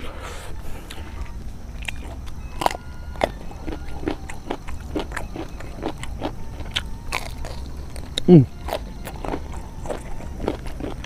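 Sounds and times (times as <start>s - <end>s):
person chewing crunchy vegetables: 0.0s - 11.0s.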